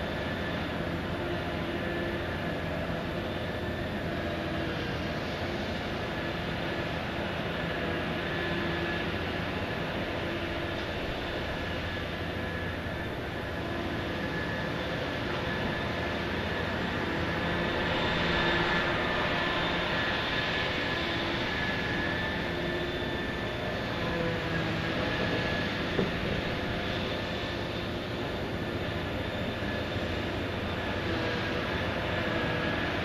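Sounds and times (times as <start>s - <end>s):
faint machinery whines: 0.0s - 33.0s
heavy machinery droning: 0.0s - 33.0s.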